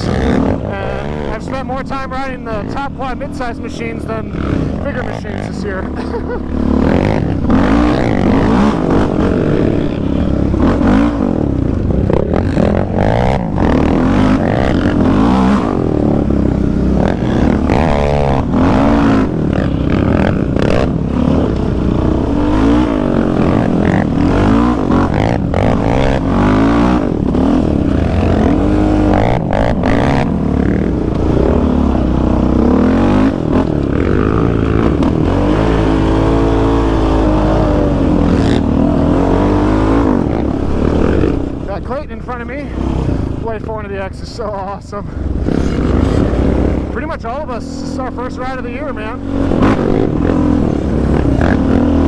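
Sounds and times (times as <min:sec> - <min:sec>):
quad engine revving: 0:00.0 - 0:52.0.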